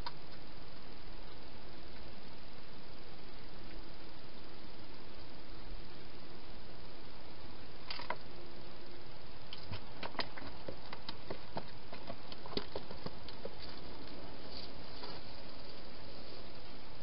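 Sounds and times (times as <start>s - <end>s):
steady hiss: 0.0s - 10.0s, 13.1s - 17.0s.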